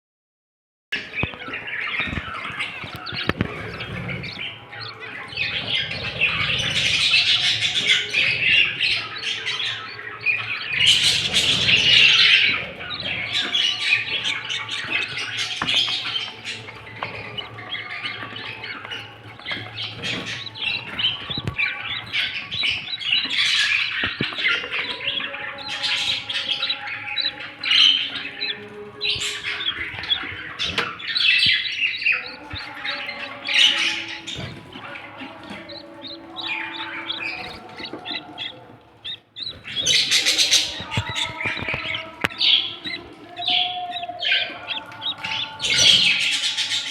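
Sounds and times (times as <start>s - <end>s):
budgerigars chattering and squawking: 1.0s - 46.9s.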